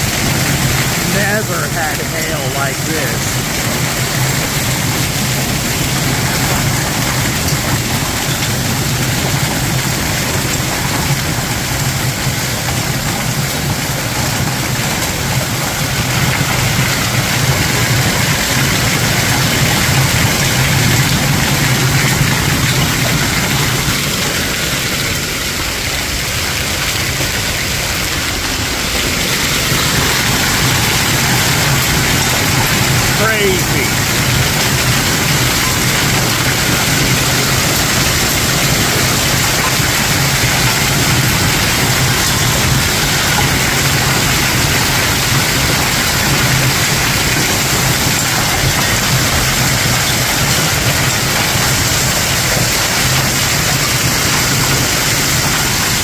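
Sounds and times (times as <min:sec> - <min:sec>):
hail pelting concrete and water: 0:00.0 - 0:56.0.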